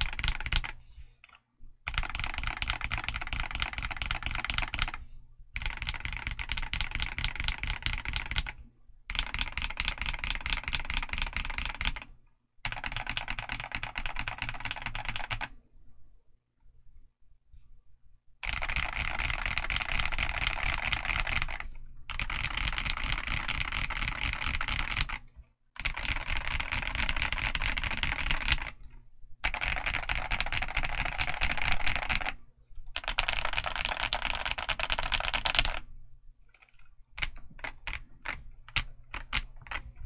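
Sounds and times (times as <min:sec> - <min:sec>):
fast typing on mechanical keyboard: 0:00.0 - 0:00.8, 0:01.9 - 0:05.0, 0:05.6 - 0:15.5, 0:18.4 - 0:32.4, 0:33.0 - 0:35.9, 0:36.5 - 0:40.0.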